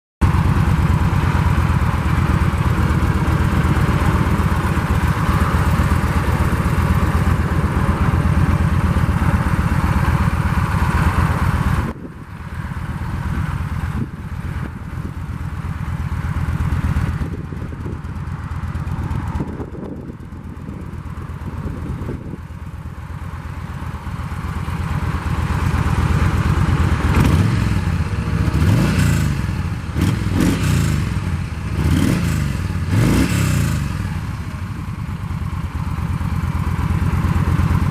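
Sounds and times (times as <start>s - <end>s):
motorcycle engine running: 0.2s - 37.9s.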